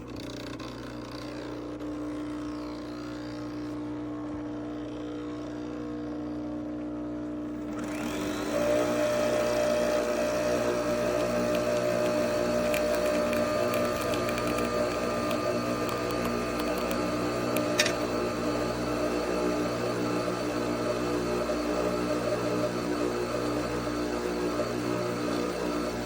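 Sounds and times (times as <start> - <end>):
coffee machine motor hum: 0.0 - 26.0.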